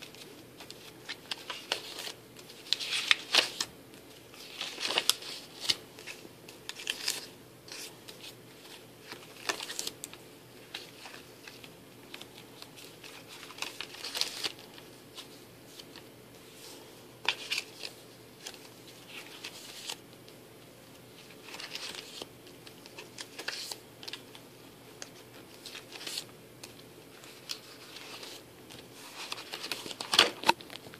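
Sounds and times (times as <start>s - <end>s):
paper pages turning: 0.0s - 20.0s, 21.2s - 24.4s, 25.0s - 30.9s.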